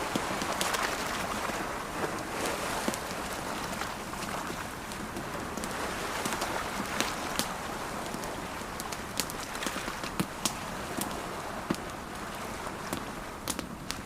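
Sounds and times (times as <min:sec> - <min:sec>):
campfire crackling and popping: 0:00.0 - 0:01.5, 0:02.1 - 0:14.0
ocean waves: 0:00.0 - 0:14.0.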